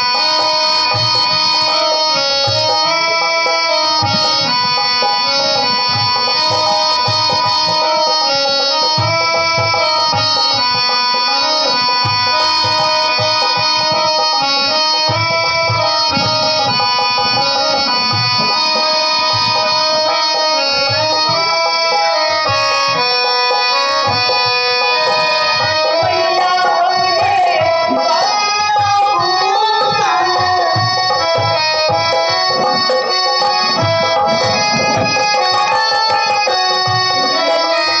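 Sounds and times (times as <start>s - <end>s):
harmonium chords: 0.0s - 38.0s
tabla beat: 0.0s - 38.0s
wavering melody line: 0.0s - 38.0s.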